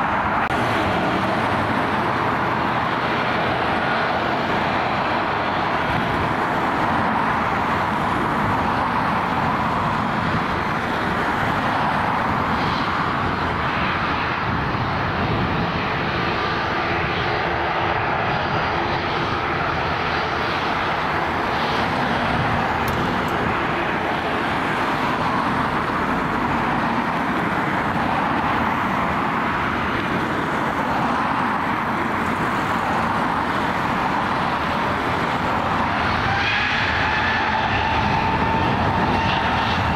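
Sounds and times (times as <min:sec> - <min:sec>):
jet engines at low power: 0:00.0 - 0:39.9.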